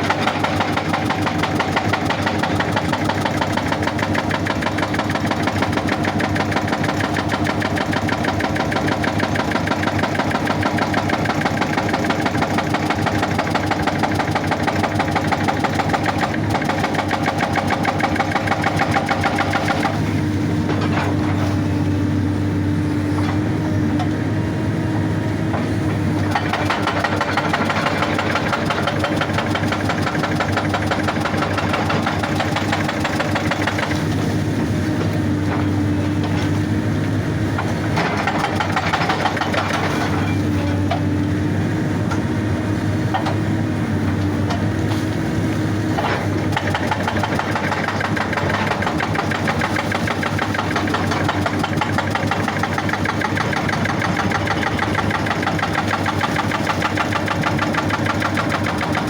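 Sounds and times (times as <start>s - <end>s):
hydraulic breaker hammering rock: 0.0s - 21.7s, 25.5s - 36.7s, 37.4s - 41.2s, 44.2s - 59.0s
excavator diesel engine: 0.0s - 59.0s.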